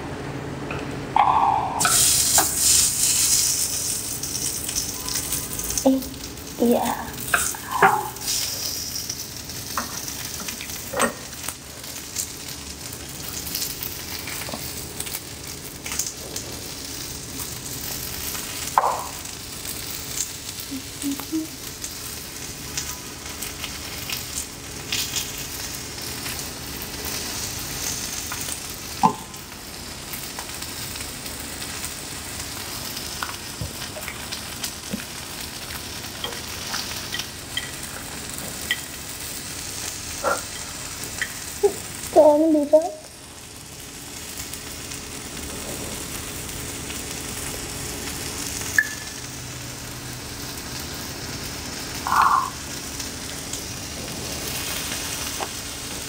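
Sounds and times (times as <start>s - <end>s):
beef sizzling on griddle: 1.2s - 56.0s.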